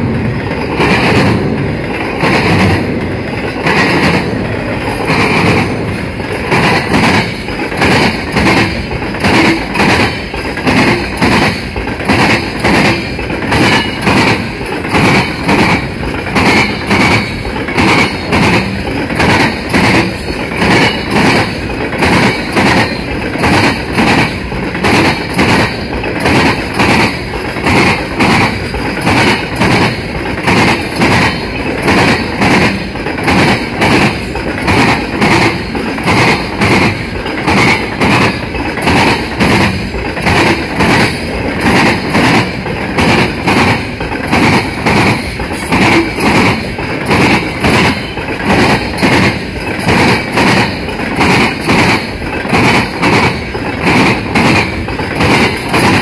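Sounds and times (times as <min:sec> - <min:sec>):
train rolling rumble: 0:00.0 - 0:56.0
train wheels clacking over rail joints: 0:00.0 - 0:56.0.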